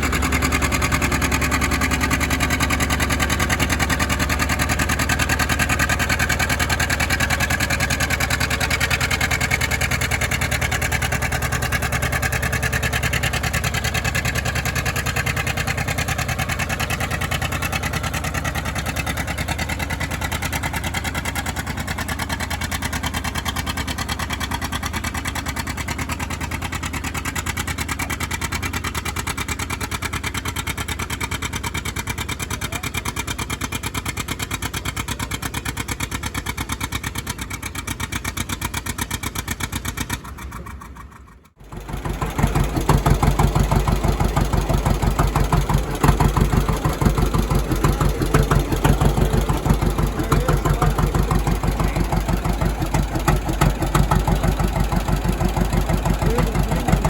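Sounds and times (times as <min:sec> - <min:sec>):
engines running: 0:00.0 - 0:23.4, 0:32.1 - 0:57.0
deeper engine running: 0:00.0 - 0:57.0.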